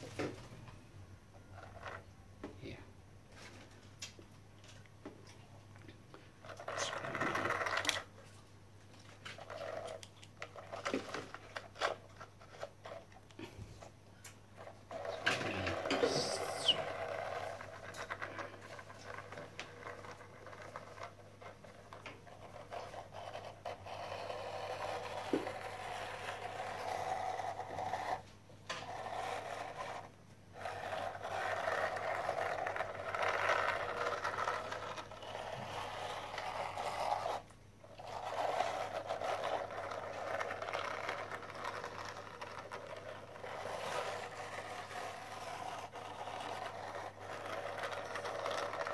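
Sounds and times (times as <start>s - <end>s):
toy wheels rolling on tile: 1.4s - 2.1s, 6.4s - 8.2s, 8.9s - 13.9s, 14.6s - 48.9s.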